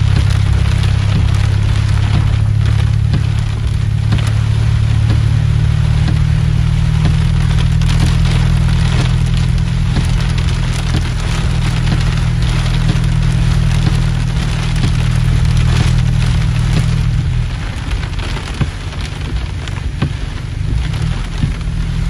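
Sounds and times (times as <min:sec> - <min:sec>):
heavy rain on car windshield: 0:00.0 - 0:22.0
loud low rumble: 0:00.0 - 0:22.0.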